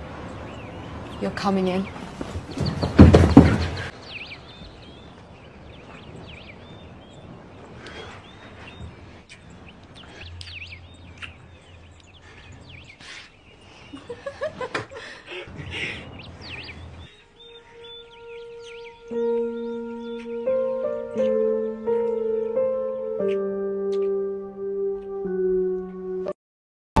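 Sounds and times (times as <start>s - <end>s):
birds chirping: 0.0s - 26.2s.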